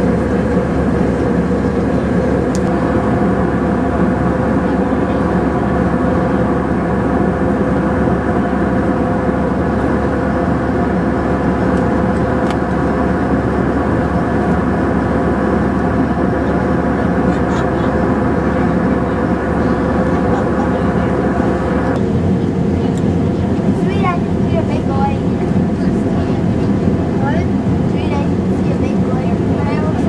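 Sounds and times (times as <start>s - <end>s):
airliner cabin drone: 0.0s - 30.0s.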